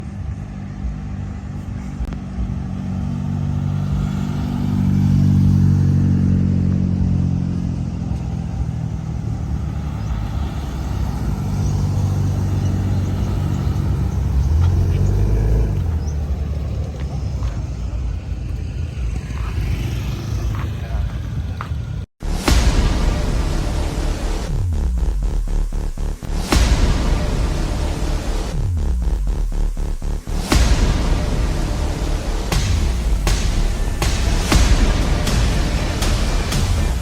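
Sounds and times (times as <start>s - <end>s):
car engine rumbling: 0.0s - 21.0s, 22.2s - 37.0s.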